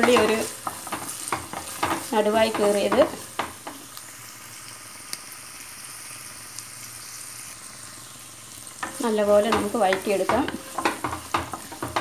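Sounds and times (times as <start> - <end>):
garlic sizzling in hot oil: 0.0 - 12.0.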